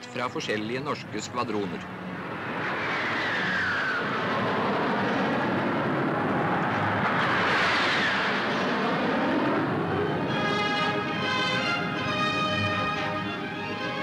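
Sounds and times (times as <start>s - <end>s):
jet engine whine: 0.0s - 14.0s
jet fighters flying over: 0.0s - 14.0s.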